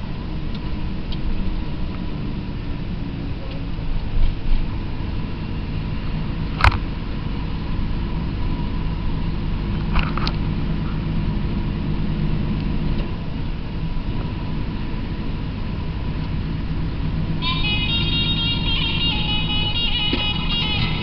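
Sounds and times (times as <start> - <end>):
road noise: 0.0 - 21.0
truck diesel engine running: 0.0 - 21.0.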